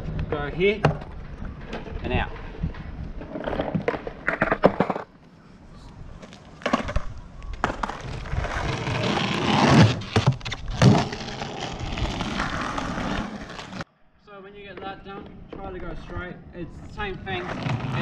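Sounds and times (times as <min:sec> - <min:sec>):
skateboard wheels rolling on asphalt: 0:00.0 - 0:13.9, 0:14.8 - 0:18.0.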